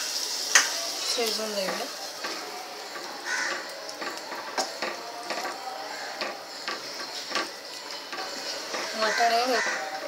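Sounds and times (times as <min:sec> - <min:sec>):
faint sizzle: 0:00.0 - 0:10.0
spatula scraping and knocking pan: 0:00.5 - 0:10.0.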